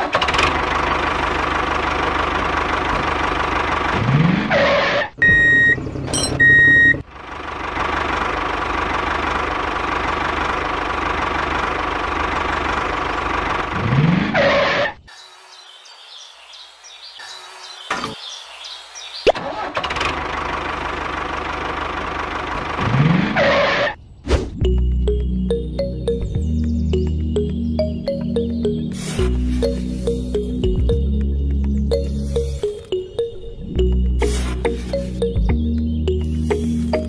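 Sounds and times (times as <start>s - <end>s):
tractor engine running: 0.0s - 15.1s, 19.3s - 24.0s, 24.6s - 37.0s.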